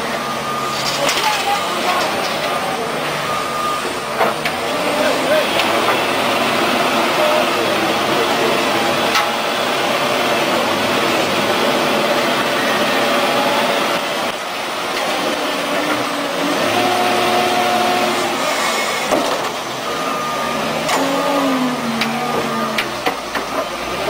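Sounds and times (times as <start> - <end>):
bulldozer engine running: 0.0 - 24.0.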